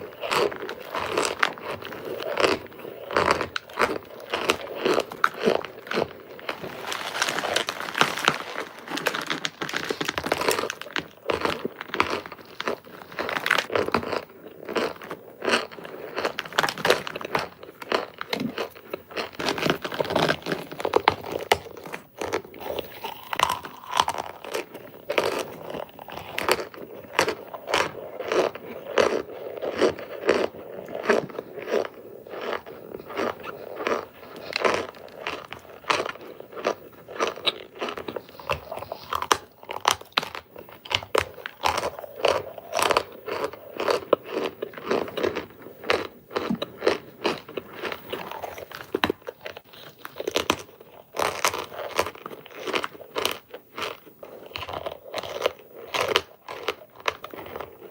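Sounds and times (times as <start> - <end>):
crunchy chewing: 0.0 - 57.9.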